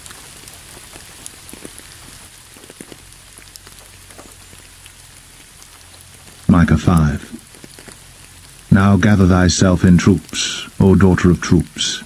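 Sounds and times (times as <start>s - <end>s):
steady rain falling: 0.0s - 12.0s
faint low hum: 0.4s - 12.0s.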